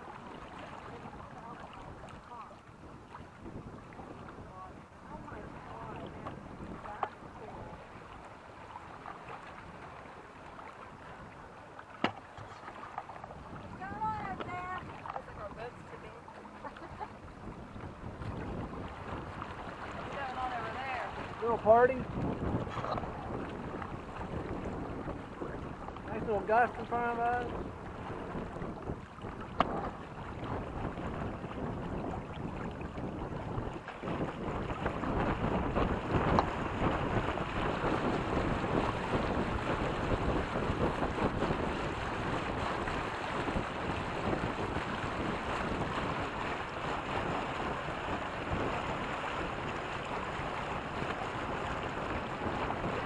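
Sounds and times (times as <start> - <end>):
water washing along hulls: 0.0 - 53.0
wind on microphone: 0.0 - 53.0.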